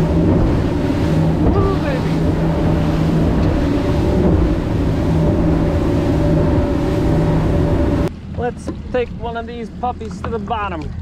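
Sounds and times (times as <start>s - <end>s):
wind rush on microphone: 0.0s - 10.3s
outboard engine drone: 0.0s - 11.0s.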